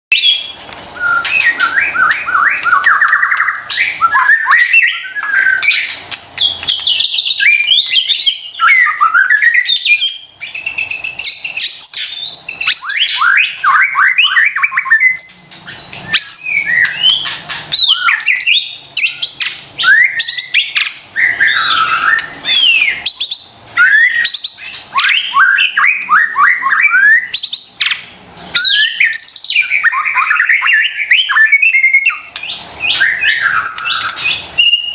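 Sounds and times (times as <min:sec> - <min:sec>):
songbird whistles and trills: 0:00.1 - 0:28.0, 0:28.6 - 0:34.9.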